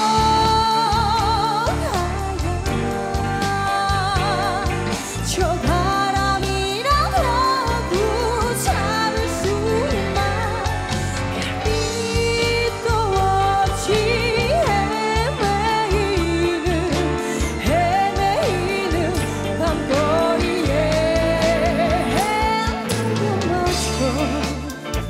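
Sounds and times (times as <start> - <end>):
band playing: 0.0 - 25.0
woman singing into microphone: 0.0 - 25.0.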